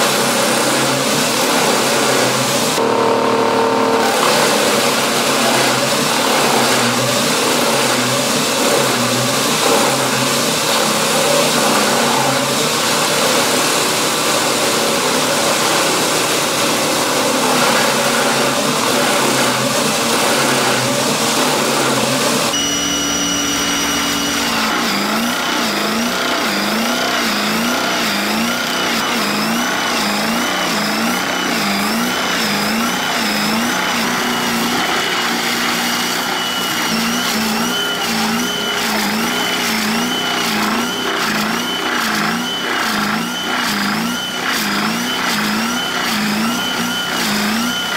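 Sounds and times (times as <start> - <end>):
rotor crushing and splintering wood: 0.0 - 47.9
wood shredder engine under load: 0.0 - 47.9.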